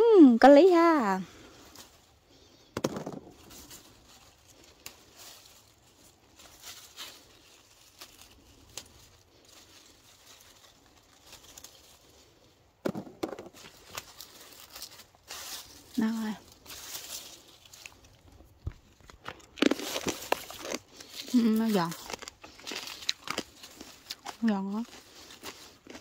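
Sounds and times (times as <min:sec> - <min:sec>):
rustling and crackling leaves: 0:00.0 - 0:26.0.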